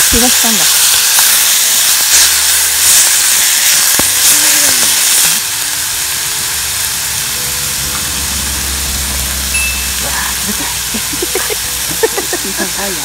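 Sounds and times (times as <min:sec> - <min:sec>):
food sizzling in a hot pot: 0:00.0 - 0:13.0.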